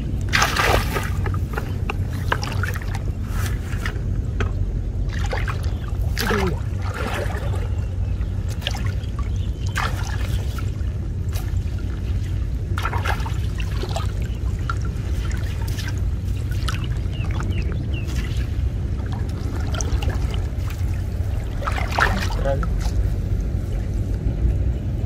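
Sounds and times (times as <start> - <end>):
water splashing: 0.0 - 4.1, 5.0 - 24.0
steady low rumble: 0.0 - 25.0.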